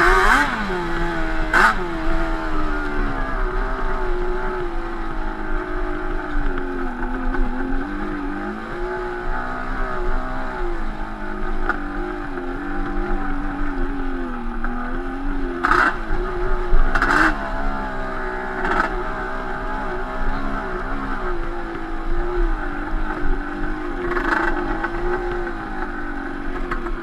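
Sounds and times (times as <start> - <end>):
two-stroke engine revving: 0.0 - 27.0.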